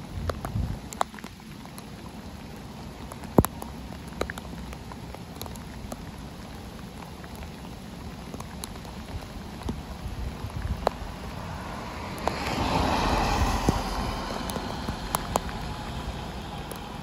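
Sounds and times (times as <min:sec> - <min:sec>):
raindrops tapping nearby: 0:00.0 - 0:17.0
steady rain: 0:00.0 - 0:17.0.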